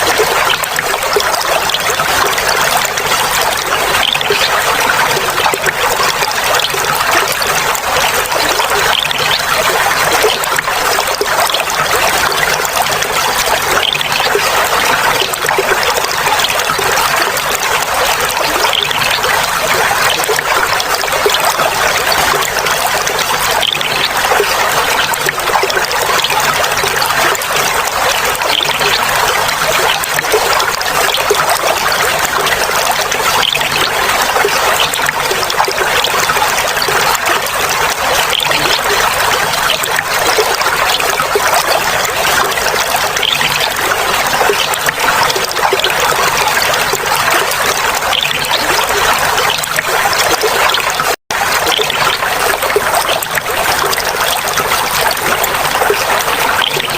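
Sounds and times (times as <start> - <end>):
water trickling and babbling: 0.0 - 56.9.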